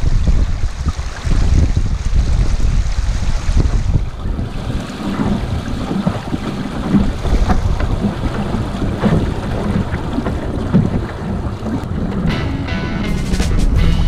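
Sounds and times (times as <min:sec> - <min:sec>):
water slapping against hull: 0:00.0 - 0:12.3
wind on microphone: 0:00.0 - 0:12.3.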